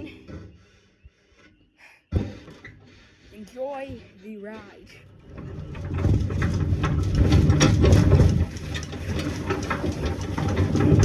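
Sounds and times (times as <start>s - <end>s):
wheelbarrow rumbling and rattling: 2.1s - 11.0s.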